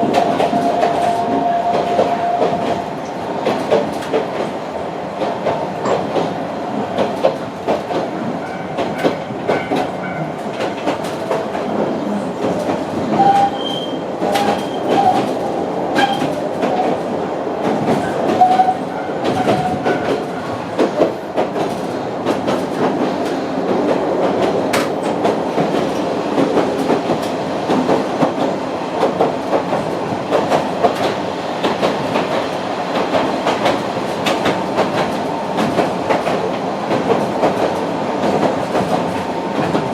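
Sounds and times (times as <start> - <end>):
clacks over rail joints: 0.0 - 4.6, 5.2 - 39.9
train wheels rumbling on rails: 0.0 - 39.9.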